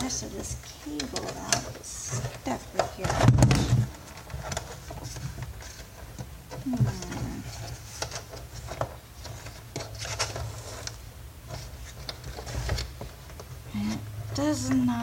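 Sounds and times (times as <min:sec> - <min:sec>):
plastic parts clicking and knocking: 0:00.0 - 0:13.7.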